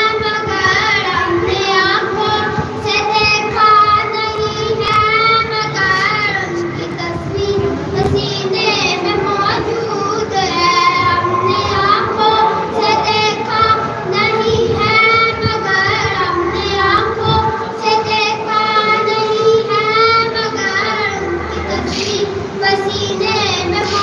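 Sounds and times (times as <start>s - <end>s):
boy singing over loudspeaker: 0.0s - 24.0s.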